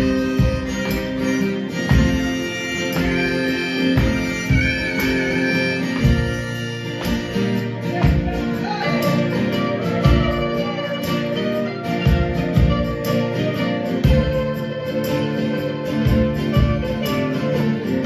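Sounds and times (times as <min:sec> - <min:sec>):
acoustic guitars strumming: 0:00.0 - 0:18.0
wavering lead melody: 0:00.0 - 0:18.0.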